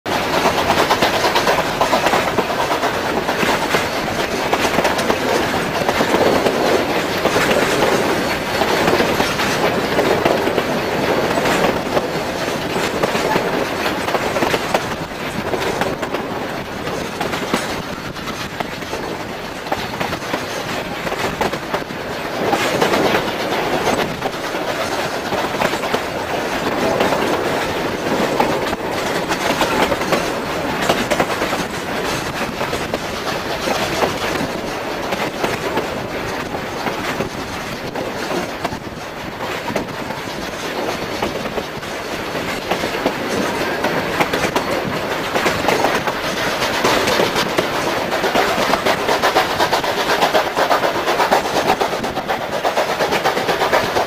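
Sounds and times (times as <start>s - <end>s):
train cars rumbling: 0.0s - 54.0s
wheels clacking over rail joints: 0.1s - 54.0s.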